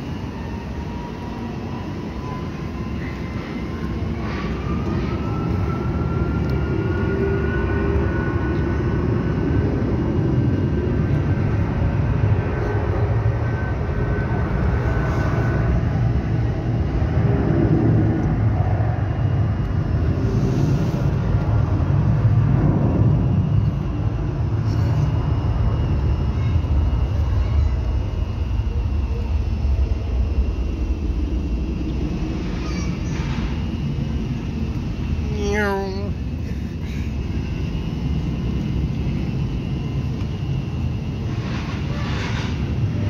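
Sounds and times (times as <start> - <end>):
jet engine whine: 0.0 - 43.0
low jet rumble: 0.0 - 43.0.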